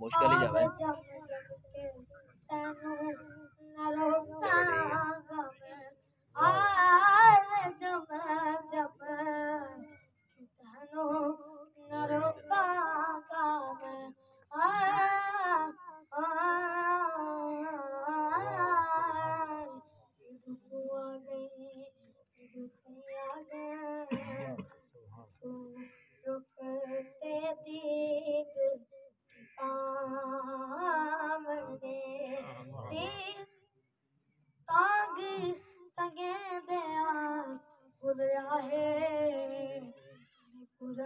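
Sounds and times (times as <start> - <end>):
boy singing unaccompanied: 0.0 - 9.9, 10.5 - 24.7, 25.4 - 28.9, 29.5 - 33.5, 34.7 - 41.0.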